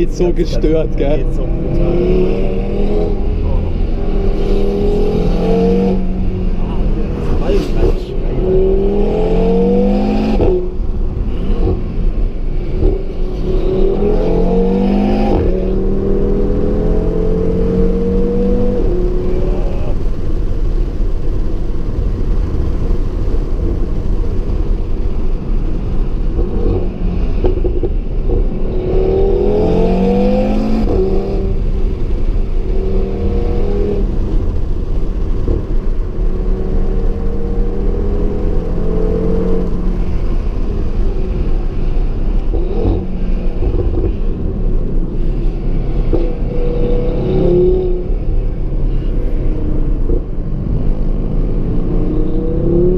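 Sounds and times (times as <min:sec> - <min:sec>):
car engine accelerating through gears: 0:00.0 - 0:52.9.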